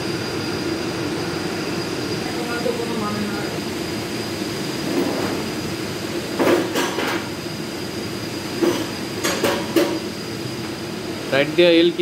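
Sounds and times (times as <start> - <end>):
mechanical hum with high whine: 0.0 - 12.0.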